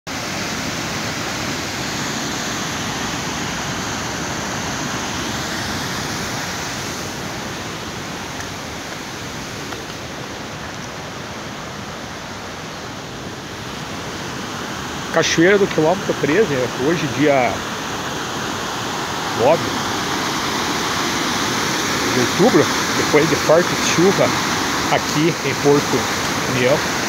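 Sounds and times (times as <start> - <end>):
waterfall rushing: 0.1 - 27.0.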